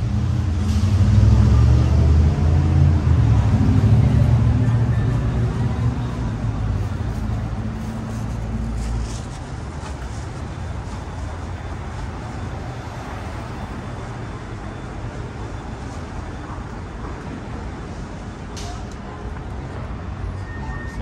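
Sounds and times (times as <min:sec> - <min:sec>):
rumble of passing cars: 0:00.0 - 0:21.0.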